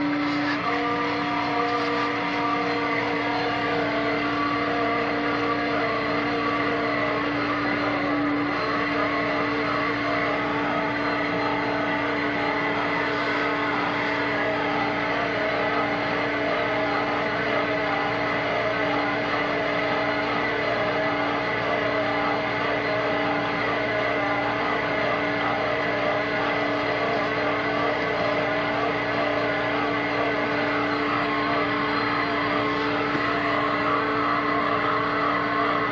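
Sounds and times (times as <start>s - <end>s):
excavator diesel engine running: 0.0s - 35.9s
hydraulic auger boring soil: 0.0s - 35.9s
steady hum: 0.0s - 35.9s.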